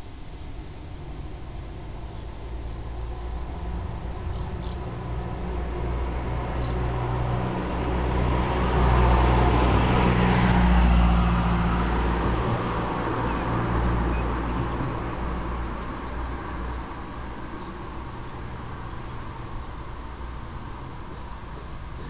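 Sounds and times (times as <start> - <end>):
motor vehicle passing: 1.6 - 22.0.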